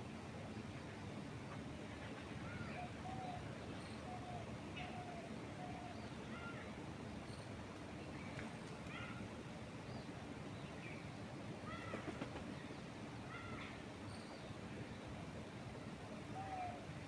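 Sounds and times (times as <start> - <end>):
wind moving through trees: 0.0 - 17.0.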